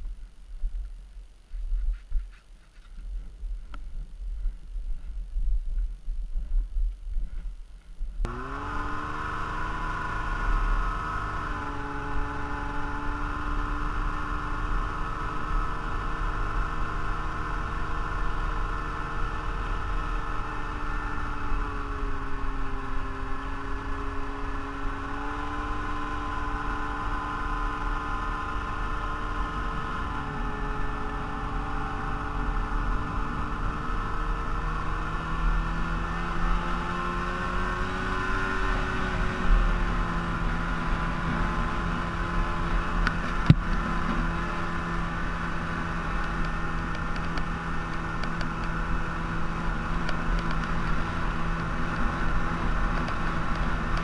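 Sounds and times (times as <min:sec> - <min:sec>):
snowmobile engine running: 0:08.2 - 0:54.0.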